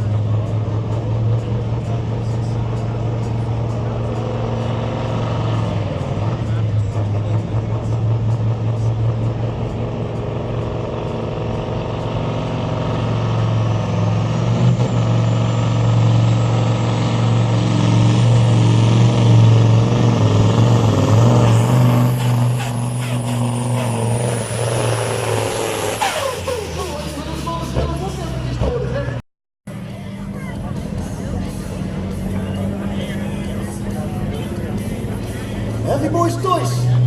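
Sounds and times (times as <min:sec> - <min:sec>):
diesel engine running hard: 0:00.0 - 0:37.0.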